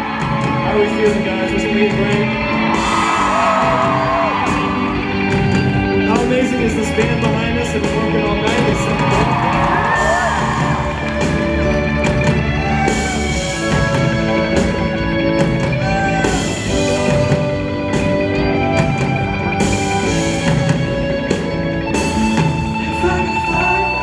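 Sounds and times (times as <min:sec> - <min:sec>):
drum kit: 0:00.0 - 0:24.0
electric guitar: 0:00.0 - 0:24.0.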